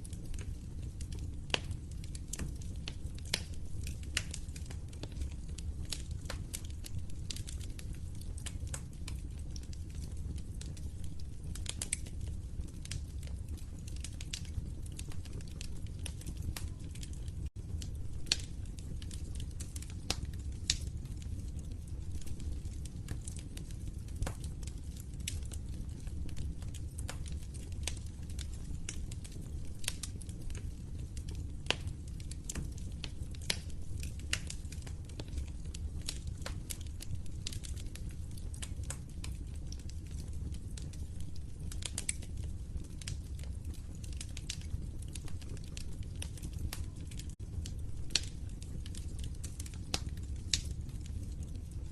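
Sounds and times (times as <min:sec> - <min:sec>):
low fire rumble: 0:00.0 - 0:51.9
wood fire crackling: 0:00.0 - 0:51.9.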